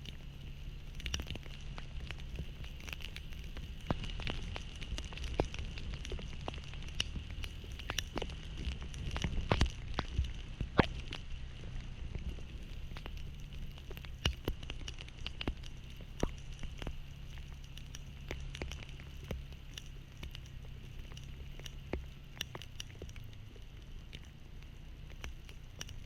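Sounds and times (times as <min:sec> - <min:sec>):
low rumble: 0:00.0 - 0:26.0
raindrops ticking on camera: 0:00.0 - 0:26.0.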